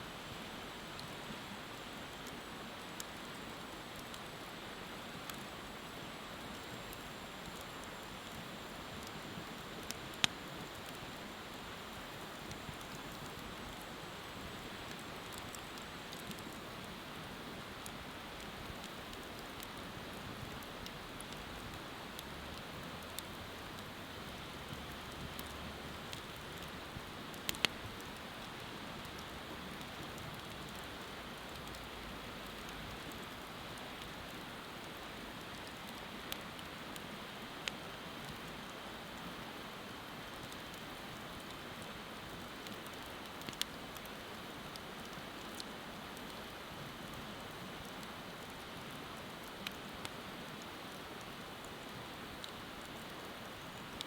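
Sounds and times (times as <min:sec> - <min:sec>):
wood fire hissing: 0:00.1 - 0:54.0
fire popping and crackling: 0:01.0 - 0:54.0.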